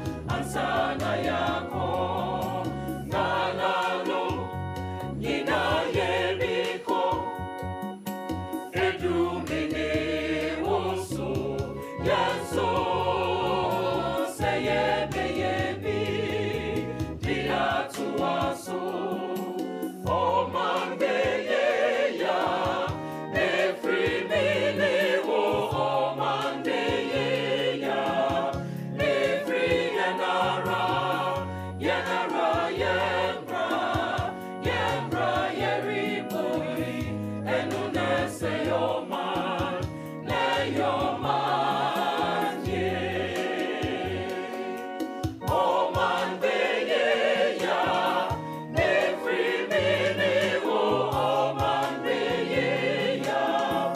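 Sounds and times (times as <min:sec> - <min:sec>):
choir singing: 0:00.0 - 0:53.9
percussion beat: 0:00.0 - 0:53.9.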